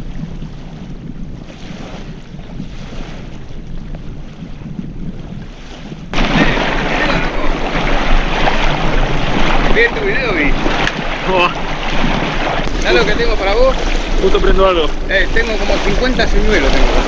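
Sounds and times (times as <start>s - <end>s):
small waves lapping on shore: 0.0s - 17.0s
wind buffeting microphone: 0.0s - 17.0s.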